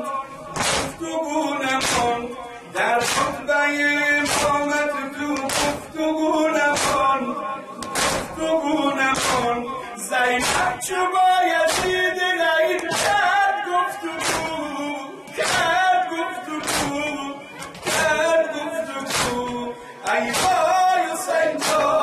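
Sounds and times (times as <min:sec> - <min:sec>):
man singing through microphone: 0:00.0 - 0:22.0
men slapping chests in unison: 0:00.5 - 0:22.0.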